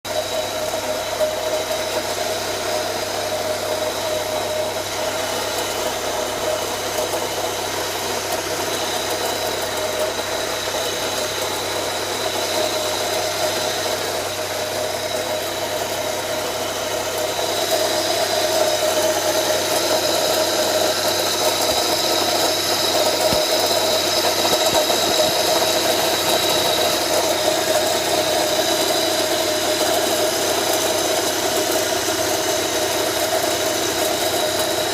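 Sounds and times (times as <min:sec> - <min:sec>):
car engine idling: 0:00.0 - 0:34.9
compressor bearing noise: 0:00.7 - 0:34.9.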